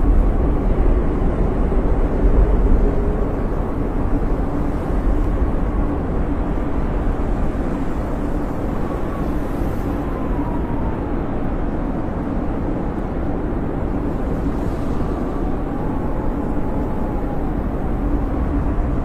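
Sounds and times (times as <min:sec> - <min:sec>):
howling snowstorm wind: 0:00.0 - 0:19.0.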